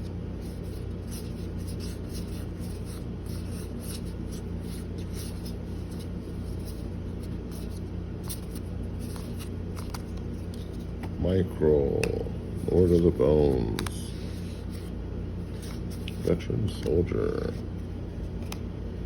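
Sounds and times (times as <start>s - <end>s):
low hum: 0.0s - 19.0s
cards sliding and flicking: 0.4s - 11.2s, 11.8s - 17.6s, 18.2s - 18.7s.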